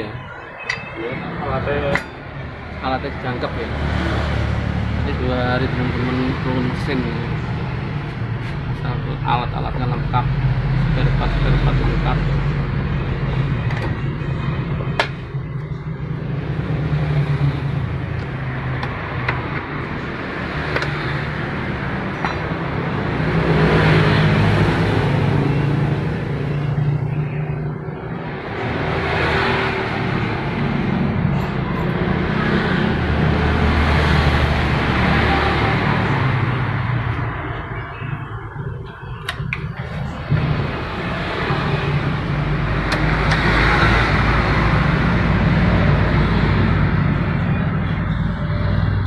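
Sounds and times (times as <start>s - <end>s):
engine running: 0.7s - 49.0s.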